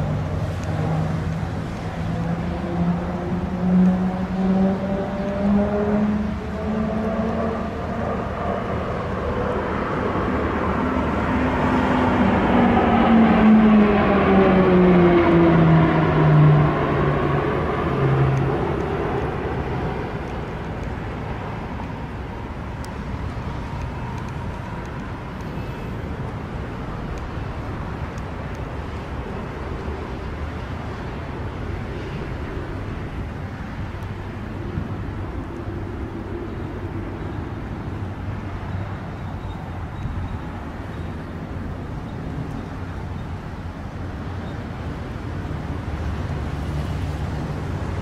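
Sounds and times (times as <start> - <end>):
aircraft engine drone: 0.0 - 48.0.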